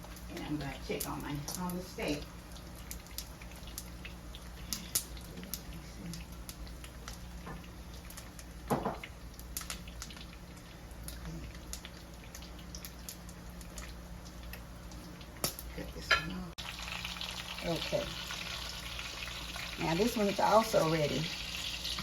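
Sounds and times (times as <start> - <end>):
steak frying in a pan: 0.0 - 22.0.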